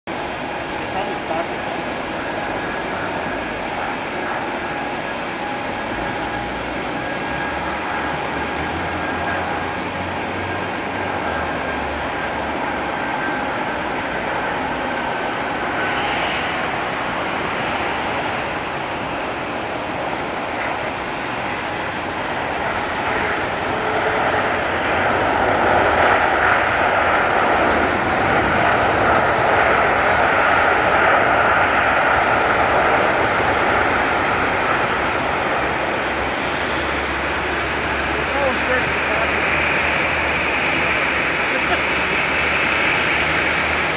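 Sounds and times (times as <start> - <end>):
jet engines whining: 0.1 - 43.9.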